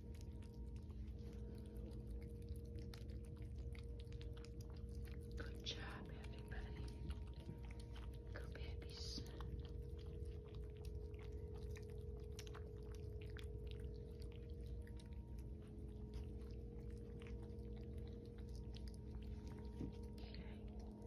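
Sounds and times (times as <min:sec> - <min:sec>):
cats chewing and lapping: 0:00.0 - 0:21.0
low hum: 0:00.0 - 0:21.0.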